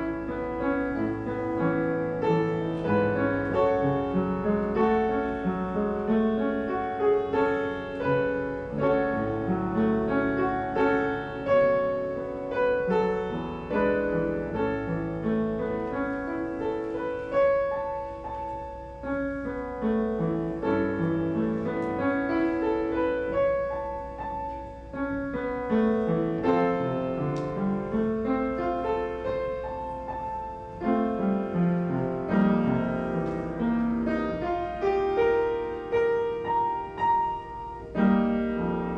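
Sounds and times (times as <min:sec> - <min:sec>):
slow solo piano piece: 0:00.0 - 0:38.9.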